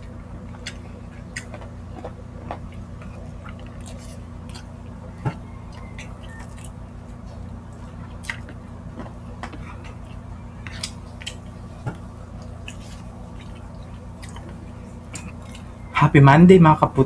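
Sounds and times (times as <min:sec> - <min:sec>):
chewing and lip smacks: 0:00.0 - 0:15.9
fingers squishing food: 0:00.0 - 0:16.0
low steady hum: 0:00.0 - 0:17.0.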